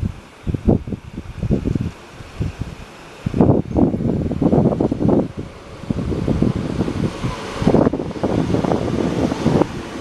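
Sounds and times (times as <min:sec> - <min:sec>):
wind buffeting the microphone: 0:00.0 - 0:10.0.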